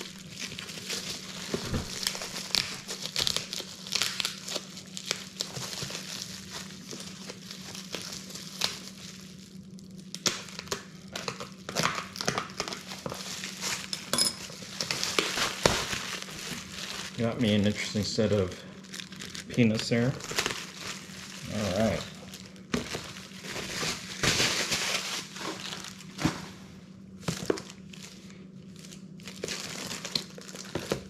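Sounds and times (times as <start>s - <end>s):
packing material rustling: 0.0s - 31.0s.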